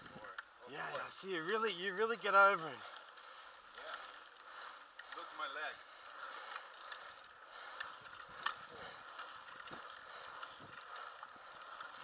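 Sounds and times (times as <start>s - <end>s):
scooter wheels rolling on asphalt: 0.0s - 12.0s
light clicks and rattles: 1.3s - 12.0s.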